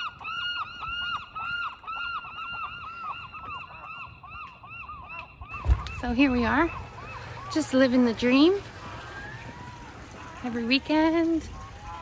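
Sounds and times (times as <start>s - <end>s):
waterbirds honking: 0.0s - 12.0s.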